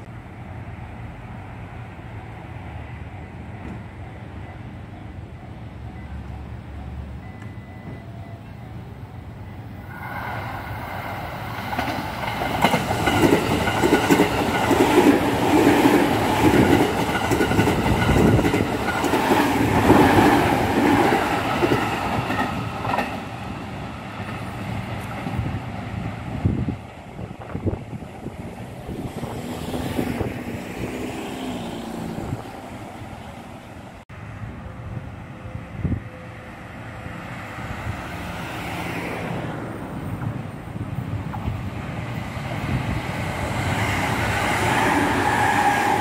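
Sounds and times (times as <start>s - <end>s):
electric train whine: 0.0s - 46.0s.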